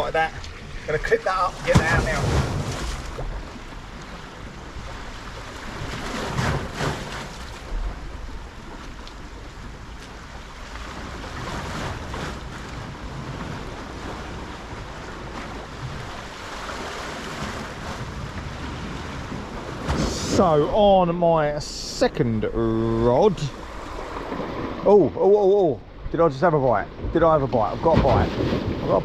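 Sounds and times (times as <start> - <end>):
sea waves washing onto beach: 0.0 - 29.0.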